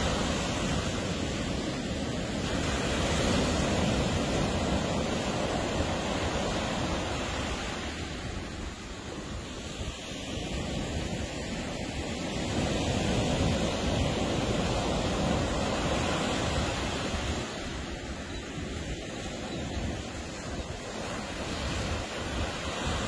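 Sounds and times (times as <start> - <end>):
ocean surf breaking on beach: 0.0 - 23.0.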